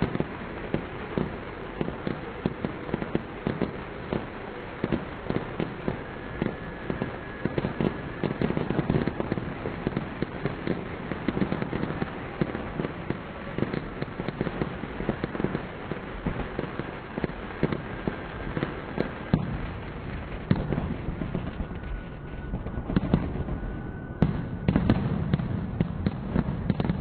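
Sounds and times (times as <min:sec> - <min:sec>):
distant fireworks crackling: 0:00.0 - 0:27.0
sharp firework bangs: 0:00.0 - 0:27.0.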